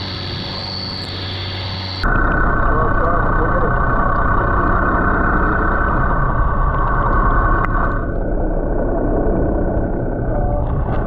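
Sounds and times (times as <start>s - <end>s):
faint steady hum: 0.0s - 11.0s
underwater rumble and hiss: 0.0s - 11.0s.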